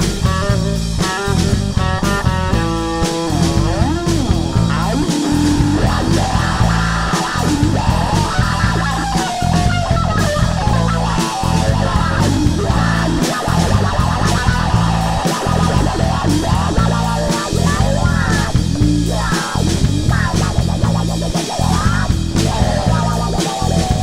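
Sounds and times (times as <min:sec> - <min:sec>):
bass guitar: 0:00.0 - 0:24.0
electric guitar: 0:00.0 - 0:24.0
steady drum beat: 0:00.0 - 0:24.0.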